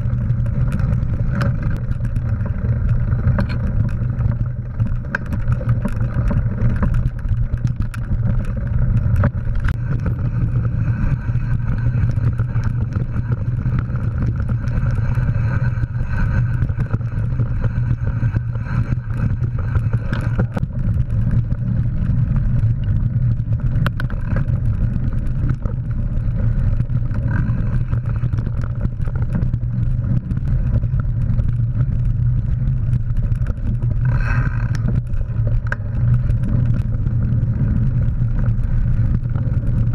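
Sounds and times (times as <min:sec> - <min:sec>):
bike clicks and rattles: 0:00.0 - 0:39.9
tyres rumbling on dirt: 0:00.0 - 0:39.9
wind noise: 0:00.0 - 0:39.9.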